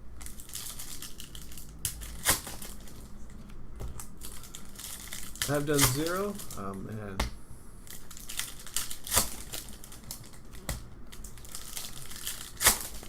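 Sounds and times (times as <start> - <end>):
plastic packaging crinkling: 0.2 - 6.8, 7.8 - 13.0.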